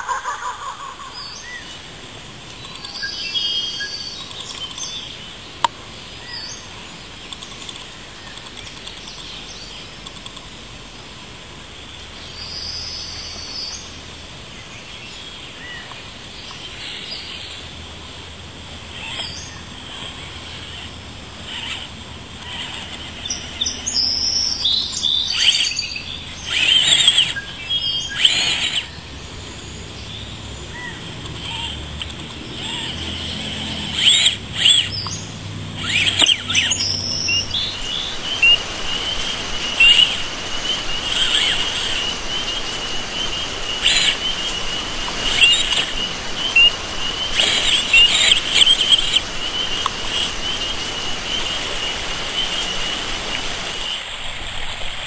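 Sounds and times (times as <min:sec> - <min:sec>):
birds chirping and calling: 0:00.0 - 0:54.7
steady outdoor hiss: 0:00.0 - 0:55.0.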